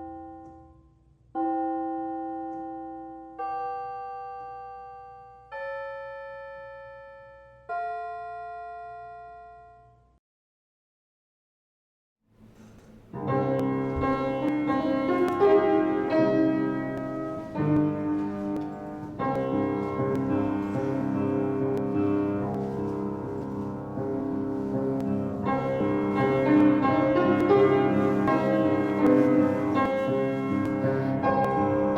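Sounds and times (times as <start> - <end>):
piano playing held chords: 0.0 - 9.5, 13.0 - 31.9.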